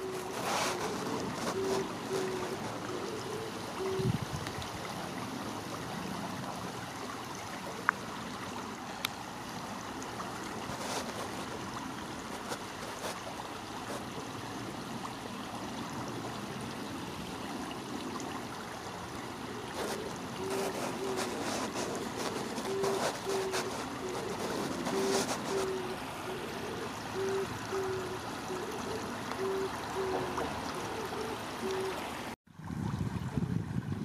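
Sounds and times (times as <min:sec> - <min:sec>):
river water over stones: 0:00.0 - 0:34.0.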